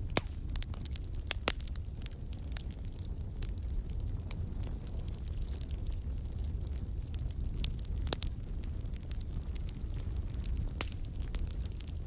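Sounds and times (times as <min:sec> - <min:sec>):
fire flames rumbling: 0:00.0 - 0:12.0
logs crackling and popping: 0:00.0 - 0:12.0.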